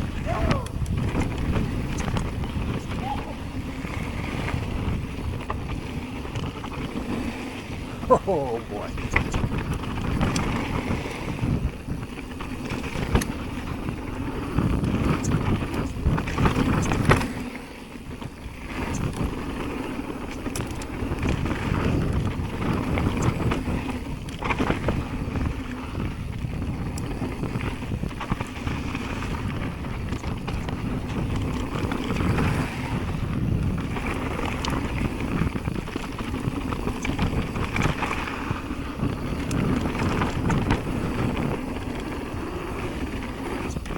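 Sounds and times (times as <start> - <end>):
bike rattling over bumps: 0.0 - 43.9
tyres rolling over rough ground: 0.0 - 43.9
wind noise on microphone: 0.0 - 43.9.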